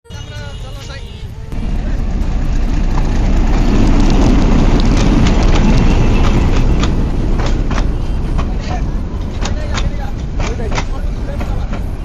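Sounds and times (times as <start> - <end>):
train rumble: 0.1 - 12.0
wheels clacking and knocking: 1.6 - 12.0.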